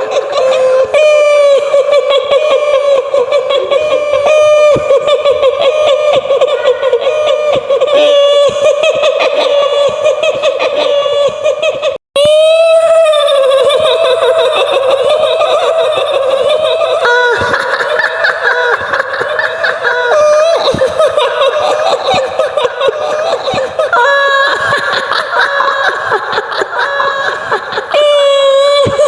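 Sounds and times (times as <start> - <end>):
woman laughing high-pitched: 0.0 - 29.0.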